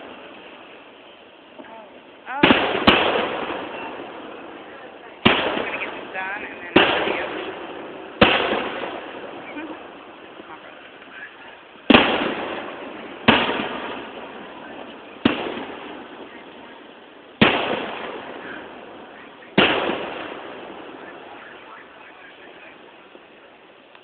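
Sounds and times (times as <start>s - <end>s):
fireworks bursting: 0.0s - 24.0s.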